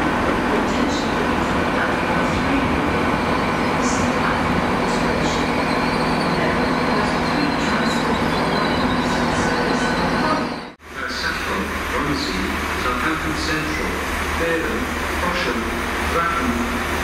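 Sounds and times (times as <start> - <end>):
train hum: 0.0 - 17.0
train wheels rumbling on rail: 0.0 - 17.0.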